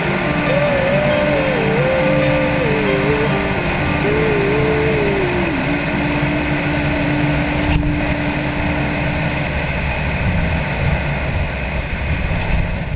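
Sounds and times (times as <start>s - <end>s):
plane engine running: 0.0s - 12.3s.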